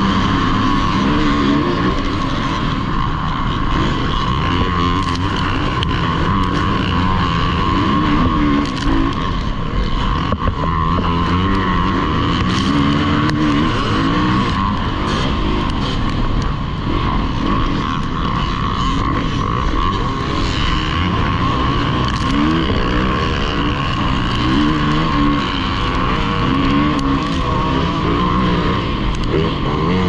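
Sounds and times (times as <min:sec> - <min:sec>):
dirt bike engine revving: 0:00.0 - 0:30.0
rush of wind and terrain: 0:00.0 - 0:30.0.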